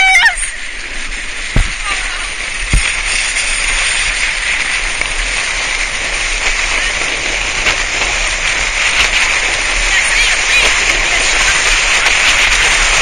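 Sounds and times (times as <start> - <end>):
sledge runners sliding on snow: 0.0 - 13.0.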